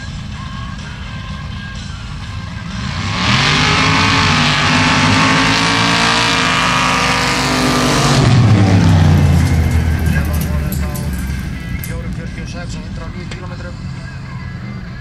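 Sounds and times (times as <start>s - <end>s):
race engine at full throttle: 0.0s - 15.0s.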